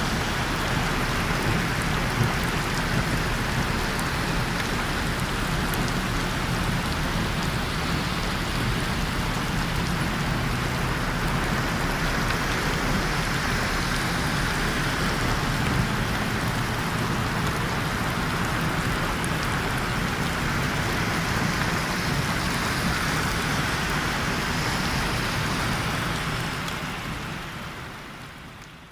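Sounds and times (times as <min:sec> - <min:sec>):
heavy rain splashing: 0:00.0 - 0:28.9.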